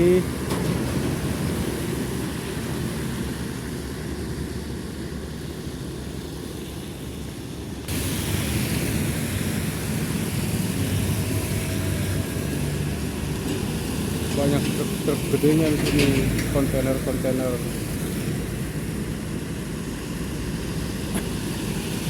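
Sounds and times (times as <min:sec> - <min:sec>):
trucks driving past on wet road: 0:00.0 - 0:22.0.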